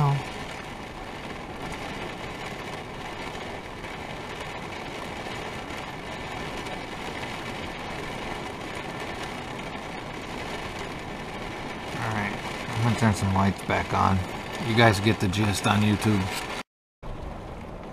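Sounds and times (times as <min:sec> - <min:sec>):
heavy rain on a vehicle roof: 0:00.0 - 0:17.9.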